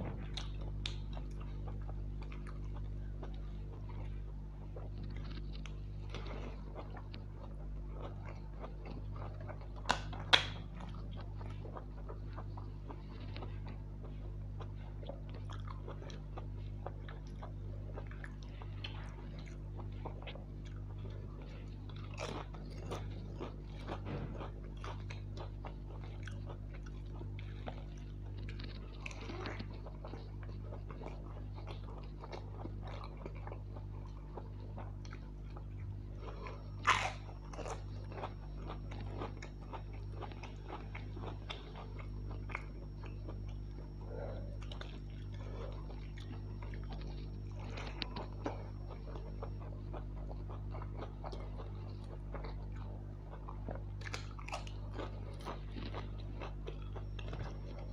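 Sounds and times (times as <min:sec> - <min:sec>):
person chewing food: 0:00.0 - 0:57.9
steady low hum: 0:00.0 - 0:57.9.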